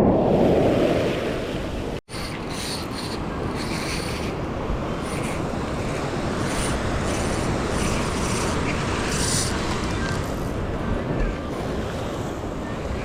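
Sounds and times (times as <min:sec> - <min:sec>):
ocean surf washing on shore: 0:00.0 - 0:13.0
wind buffeting microphone: 0:00.0 - 0:13.0.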